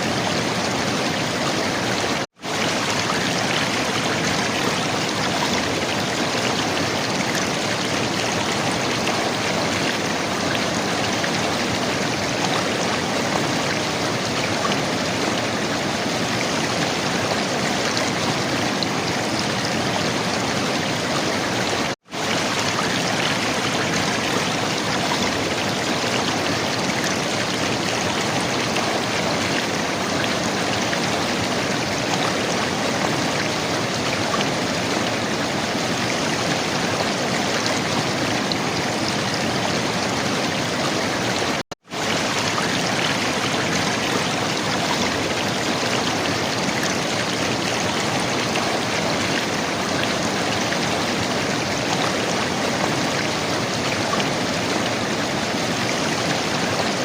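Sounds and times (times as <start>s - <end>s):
river water gurgling over rocks: 0.0s - 57.0s.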